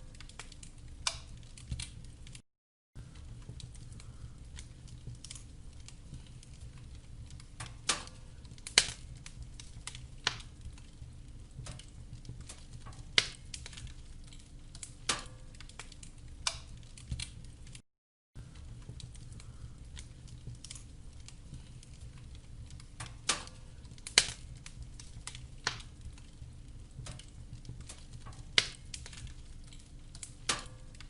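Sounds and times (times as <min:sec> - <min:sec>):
low rumble of flames: 0:00.0 - 0:02.4, 0:03.0 - 0:17.8, 0:18.4 - 0:31.0
wood fire crackling: 0:00.0 - 0:02.4, 0:03.0 - 0:17.8, 0:18.4 - 0:31.0.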